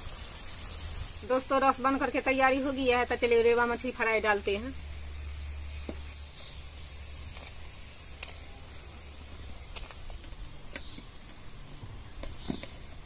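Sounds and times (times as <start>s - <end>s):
gravy boiling with a hiss: 0.0s - 13.0s.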